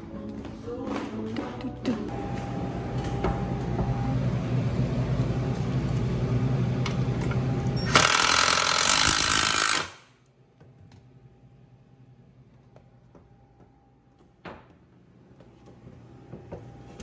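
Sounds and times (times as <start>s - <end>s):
steady low hum: 0.6s - 8.3s, 9.9s - 17.0s.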